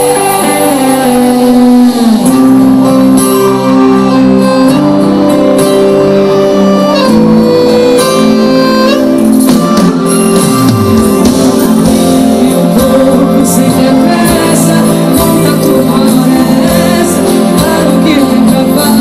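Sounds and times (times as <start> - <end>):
accordion sustained notes: 0.0 - 19.0
live band playing: 0.0 - 19.0.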